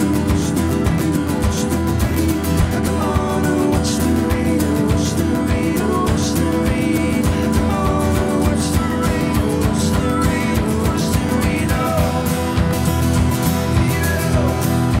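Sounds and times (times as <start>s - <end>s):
acoustic guitars strummed: 0.0s - 15.0s
person singing: 0.0s - 15.0s.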